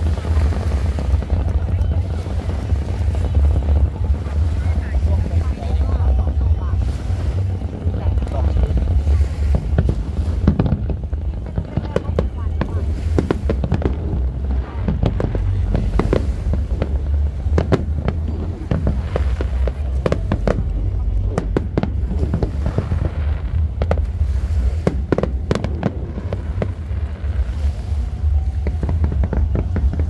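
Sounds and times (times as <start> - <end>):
continuous low rumble: 0.0 - 30.0
fireworks bangs and crackles: 0.0 - 30.0.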